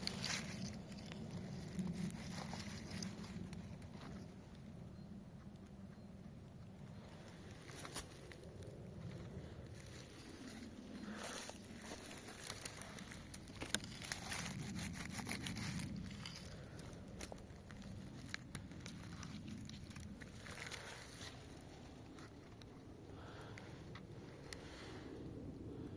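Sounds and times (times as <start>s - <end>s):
rustling and crackling: 0.0s - 4.7s, 6.8s - 25.0s.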